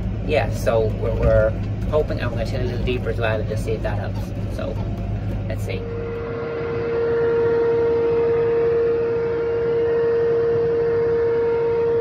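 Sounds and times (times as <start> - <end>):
farm machinery whining: 0.0 - 12.0.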